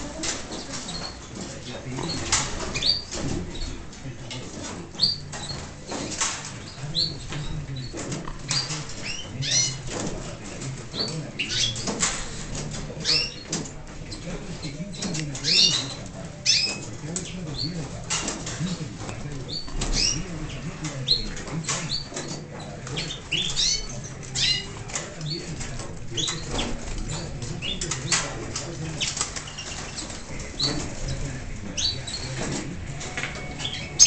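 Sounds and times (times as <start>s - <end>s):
finches and canaries chirping: 0.0s - 34.0s.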